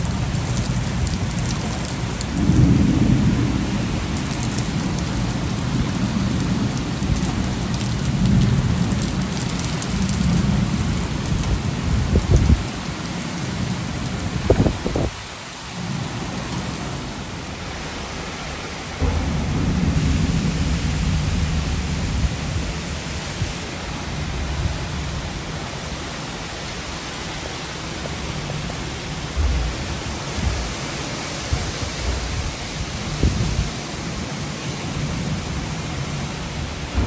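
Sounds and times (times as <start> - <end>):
heavy rain: 0.0 - 37.0
thunder rumble: 0.0 - 37.0
wind gusts: 0.0 - 37.0.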